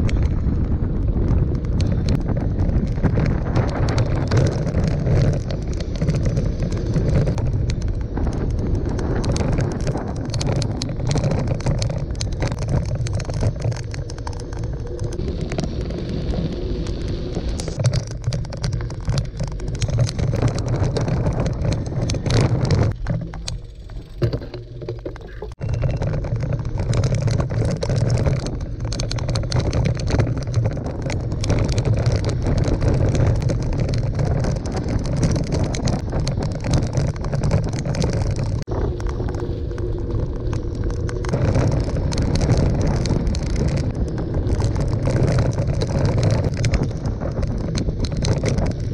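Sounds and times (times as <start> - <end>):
bike tyres rolling on dirt: 0.0 - 48.9
wind rushing over microphone: 0.0 - 48.9.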